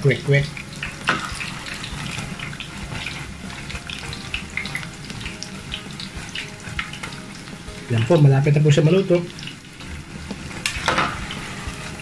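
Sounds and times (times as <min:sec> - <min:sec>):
deep-frying sizzle with pops: 0:00.0 - 0:12.0.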